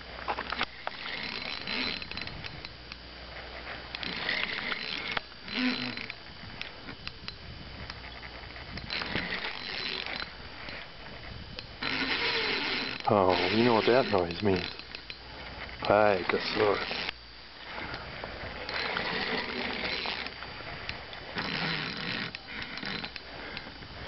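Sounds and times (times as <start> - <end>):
reel drag running: 0.0 - 24.0
fishing reel clicking: 0.4 - 3.0, 3.9 - 10.9, 11.5 - 23.7.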